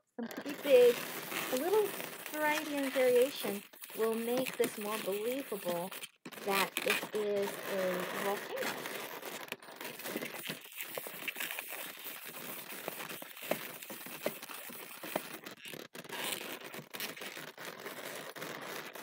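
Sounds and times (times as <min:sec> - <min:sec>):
balloons rubbing and creaking: 0:00.0 - 0:19.0.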